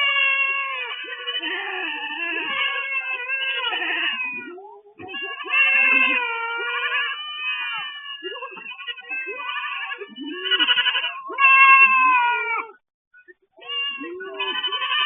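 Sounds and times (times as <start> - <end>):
goats bleating: 0.0 - 12.8, 13.6 - 15.0.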